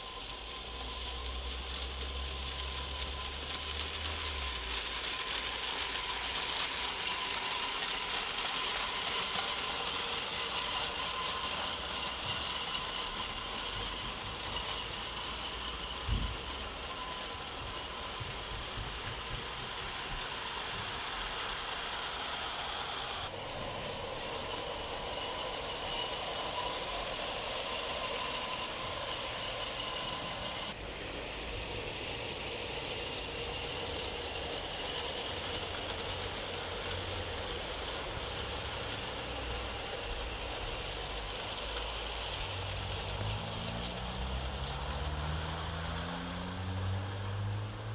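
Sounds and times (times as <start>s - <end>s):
model train motor whine: 0.0s - 47.9s.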